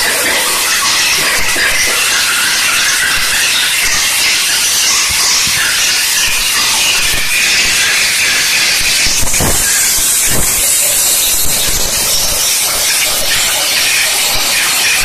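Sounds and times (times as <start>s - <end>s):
steam hissing from cleaner lance: 0.0s - 15.0s.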